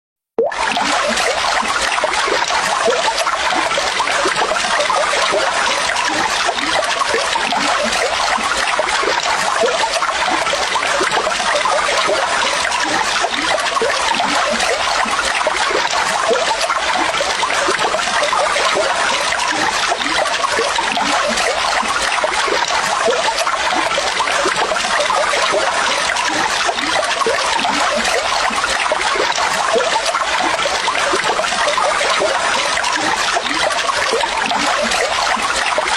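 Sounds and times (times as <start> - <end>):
water running and trickling: 0.7 - 35.9.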